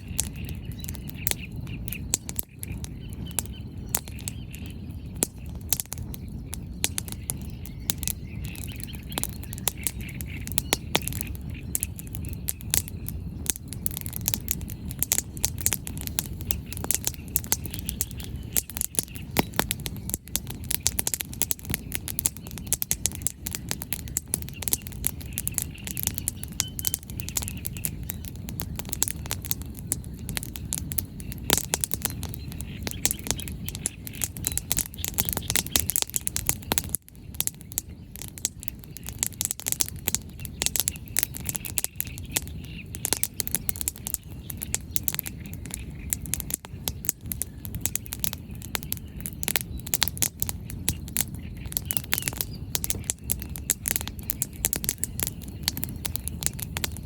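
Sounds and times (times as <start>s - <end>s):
birds chirping: 0.0s - 57.0s
bonfire crackling and popping: 0.0s - 57.0s.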